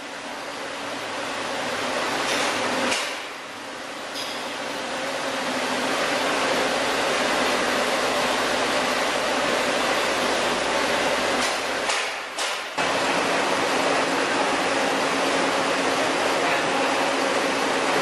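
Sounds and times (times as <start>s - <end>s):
milling machinery running: 0.0s - 12.2s, 12.8s - 18.0s.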